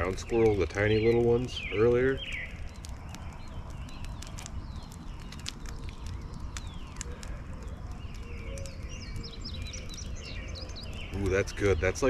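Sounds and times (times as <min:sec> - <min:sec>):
birds chirping: 0:00.0 - 0:12.0
campfire crackling and popping: 0:00.0 - 0:12.0.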